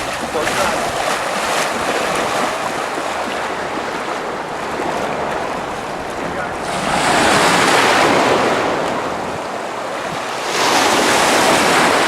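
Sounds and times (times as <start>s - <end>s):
waves breaking on shore: 0.0s - 12.0s
wind on microphone: 0.0s - 12.0s.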